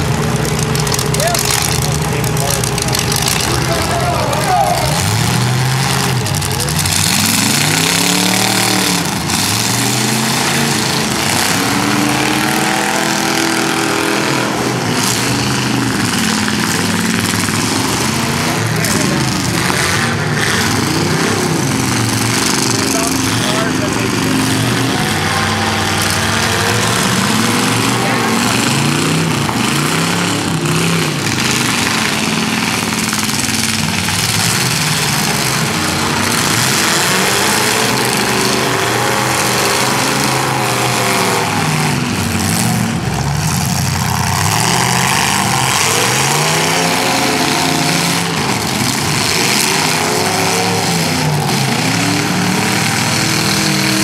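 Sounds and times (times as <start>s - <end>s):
car engines revving: 0.0s - 54.0s
constant din: 0.0s - 54.0s.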